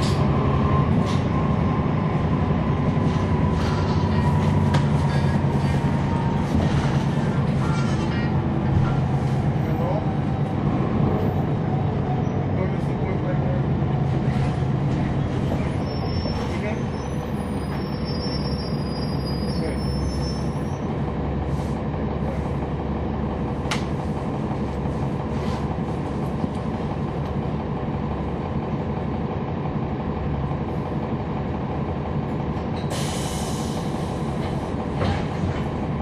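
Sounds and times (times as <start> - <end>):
bus diesel engine rumble: 0.0 - 36.0.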